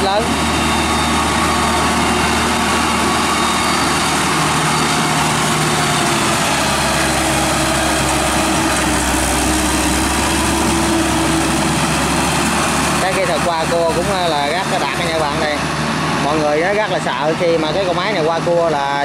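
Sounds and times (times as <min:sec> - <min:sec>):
diesel tiller engine running: 0:00.0 - 0:19.0.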